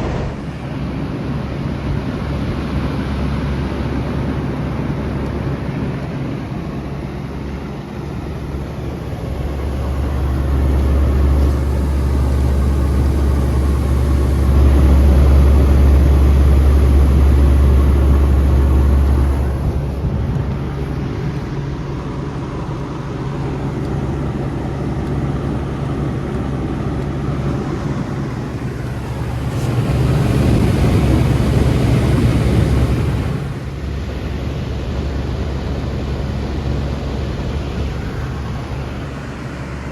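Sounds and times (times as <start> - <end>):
compressor hum: 0.0 - 39.9
fan rushing: 0.0 - 39.9.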